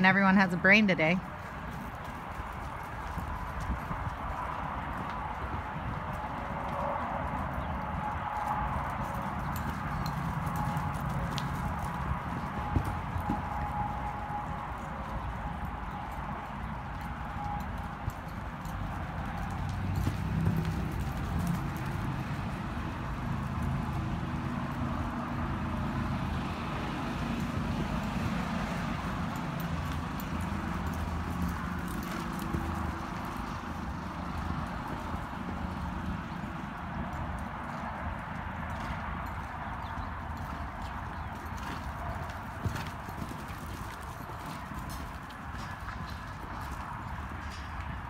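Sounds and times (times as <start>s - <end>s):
hoofbeats on soft dirt: 0.0s - 48.0s.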